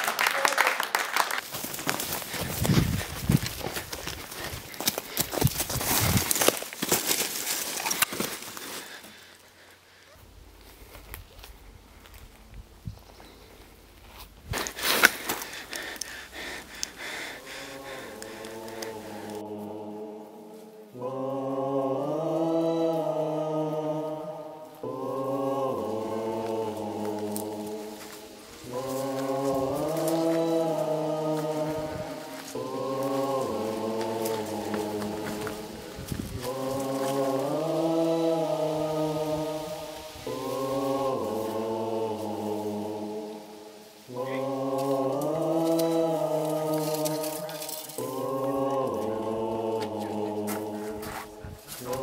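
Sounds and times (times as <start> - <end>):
voices chanting held notes: 0.0 - 52.0.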